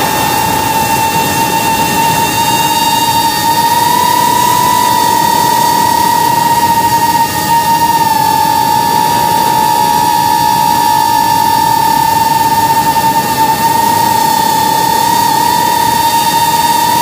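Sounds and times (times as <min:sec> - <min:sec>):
drone motors high whine: 0:00.0 - 0:17.0.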